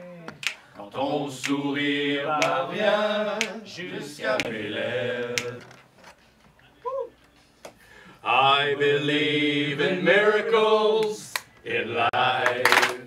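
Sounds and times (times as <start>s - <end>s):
men singing a cappella: 0.0s - 5.8s, 8.2s - 13.0s.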